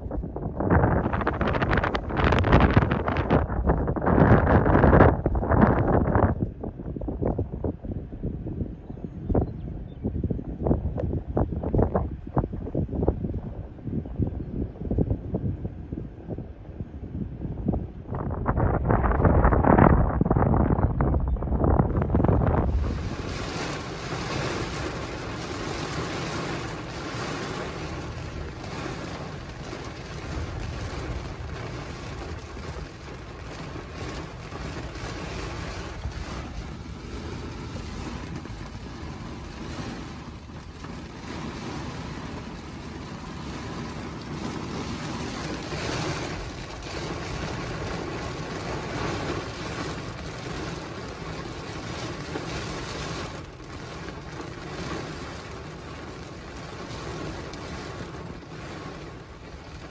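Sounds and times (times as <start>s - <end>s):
heavy rain on car roof: 0.0s - 8.7s, 14.8s - 59.9s.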